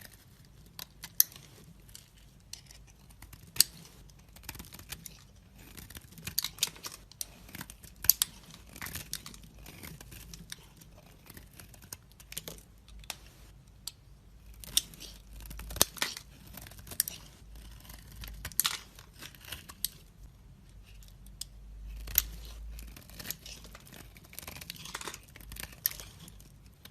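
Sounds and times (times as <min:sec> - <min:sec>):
knife cutting soap: 0:00.0 - 0:13.0, 0:14.4 - 0:26.9.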